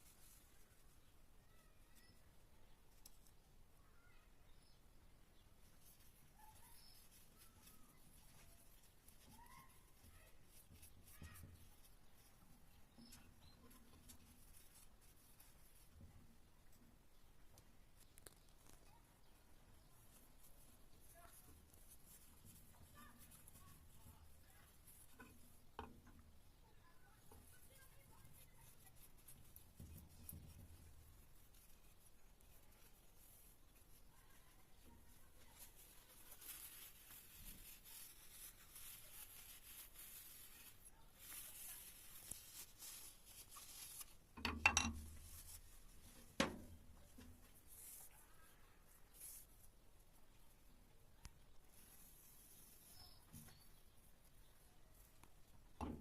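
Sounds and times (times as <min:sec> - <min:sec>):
light scratches and ticks: 0:00.0 - 0:56.0.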